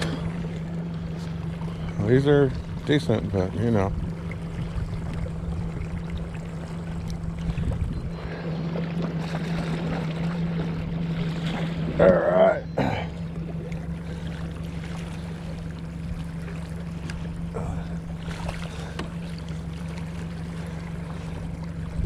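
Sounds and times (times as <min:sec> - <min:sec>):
boat motor humming: 0:00.0 - 0:22.0
water washing along hull: 0:00.0 - 0:22.0.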